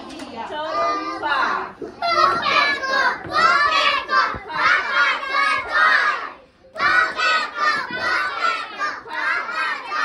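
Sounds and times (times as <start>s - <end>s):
children chanting in unison: 2.0s - 10.0s.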